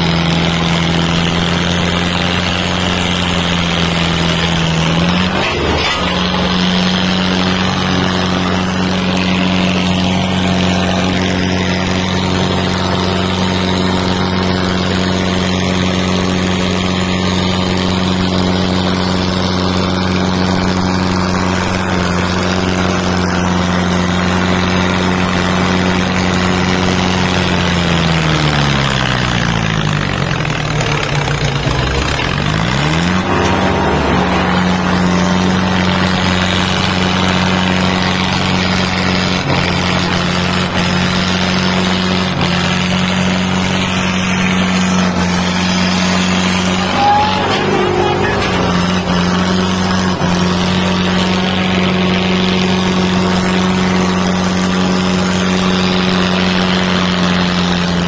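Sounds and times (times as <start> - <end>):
diesel tractor engine revving: 0.0 - 58.0.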